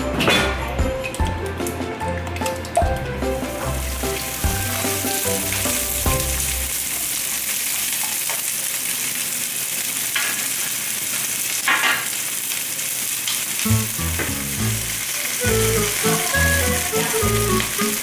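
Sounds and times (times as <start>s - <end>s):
vegetables sizzling in frying pan: 3.3s - 18.0s.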